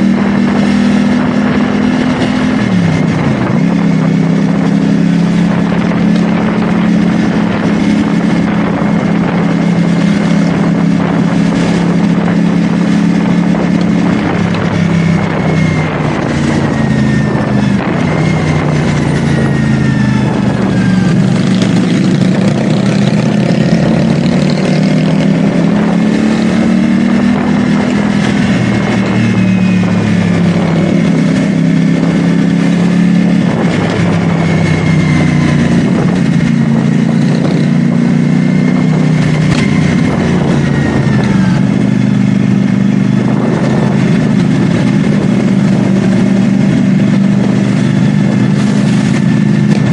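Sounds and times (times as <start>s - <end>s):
motorcycle engine revving: 0.0s - 49.9s
road noise: 0.0s - 49.9s
wind noise: 0.0s - 49.9s.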